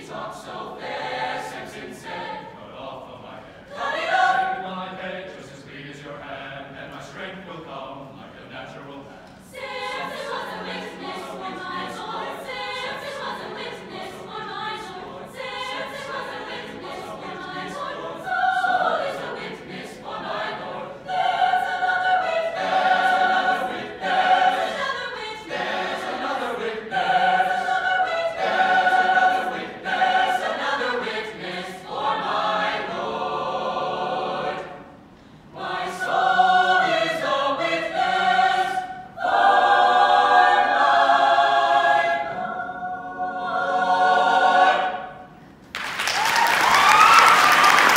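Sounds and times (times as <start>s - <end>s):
choir singing unaccompanied: 0.0s - 45.5s.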